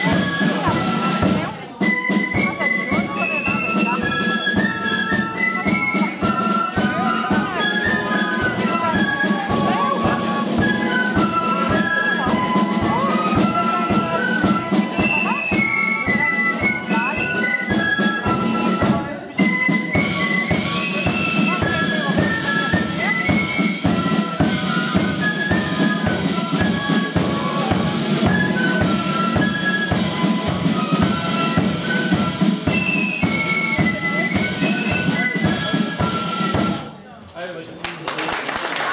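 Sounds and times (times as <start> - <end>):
side-drum beats: 0.0 - 37.0.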